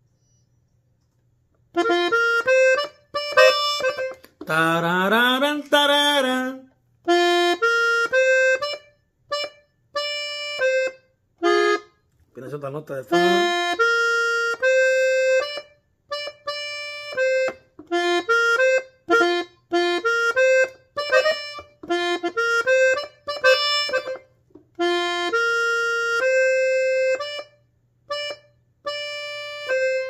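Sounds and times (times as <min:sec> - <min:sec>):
button accordion melody: 0:01.7 - 0:12.1, 0:12.9 - 0:30.0.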